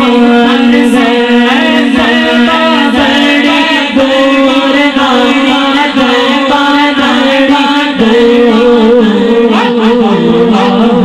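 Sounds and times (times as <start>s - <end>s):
voices singing a melody: 0.0s - 11.0s.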